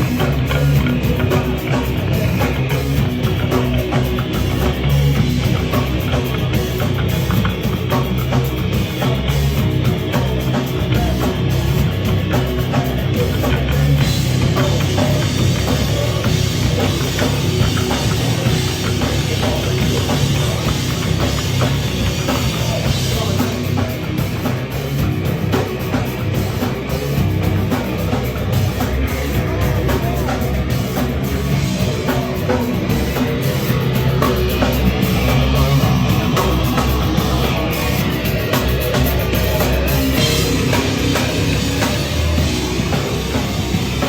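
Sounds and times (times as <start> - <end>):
heavy rock music with drums: 0.0 - 44.0.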